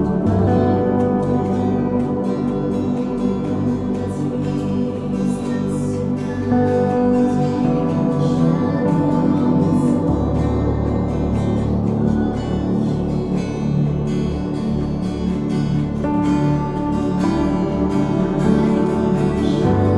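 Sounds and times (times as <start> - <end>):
person singing: 0.0 - 13.6, 16.1 - 19.9
plucked guitar: 0.0 - 19.9
sustained instrumental chords: 0.0 - 19.9.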